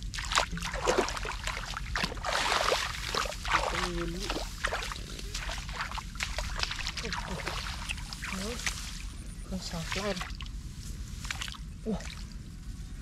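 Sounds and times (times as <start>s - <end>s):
shallow water splashing: 0.0s - 12.4s.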